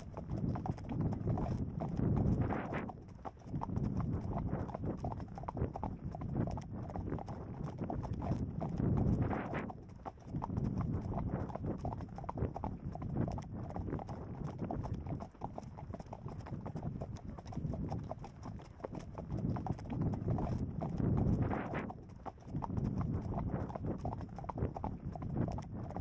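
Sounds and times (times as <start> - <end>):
hooves clip-clopping on dirt: 0.0 - 26.0.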